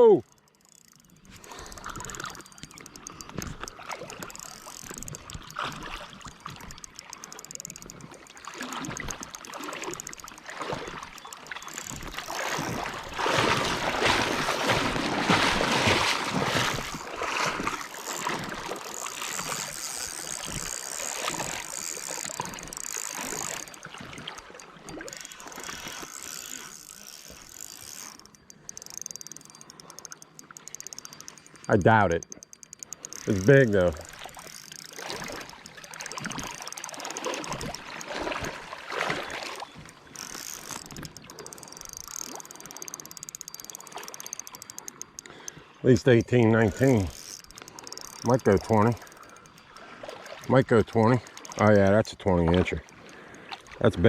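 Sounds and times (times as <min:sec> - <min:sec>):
fishing reel clicking: 0:00.0 - 0:54.0
water splashing: 0:01.0 - 0:54.0.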